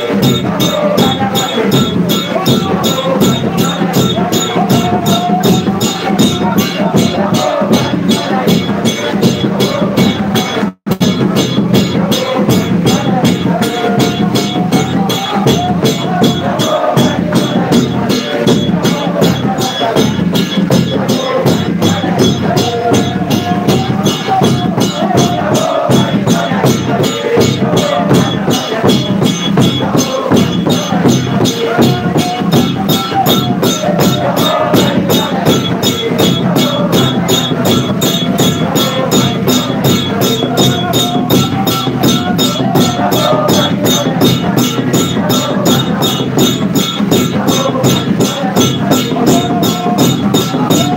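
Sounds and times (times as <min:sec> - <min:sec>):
congregation singing: 0:00.0 - 0:50.9
large drum beating: 0:00.0 - 0:50.9
rattling percussion: 0:00.0 - 0:50.9.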